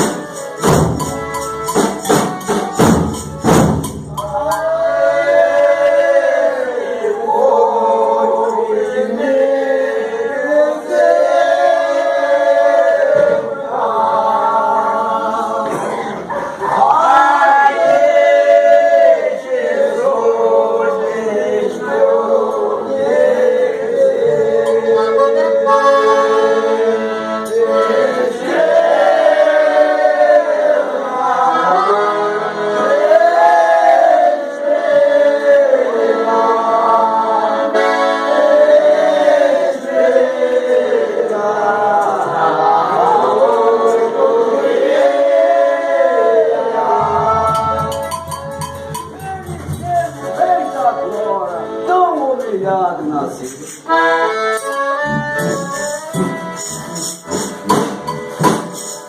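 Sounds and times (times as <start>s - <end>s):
group singing in harmony: 0.0s - 51.8s, 53.8s - 59.0s.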